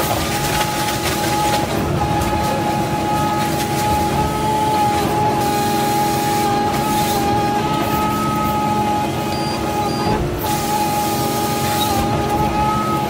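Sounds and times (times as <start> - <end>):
forestry harvester rumble and whine: 0.0 - 13.0.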